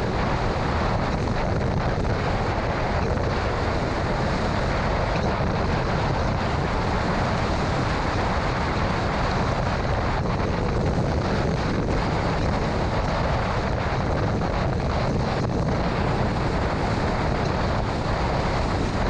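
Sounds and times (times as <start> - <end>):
tyre and road noise: 0.0 - 19.0
wind and storm noise: 0.0 - 19.0.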